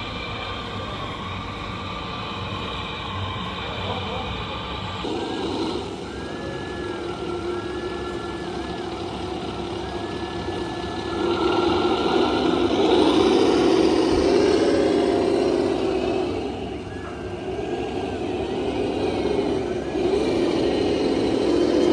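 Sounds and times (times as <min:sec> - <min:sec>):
high motor whine: 0:00.0 - 0:21.9
mechanical drone: 0:00.0 - 0:21.9.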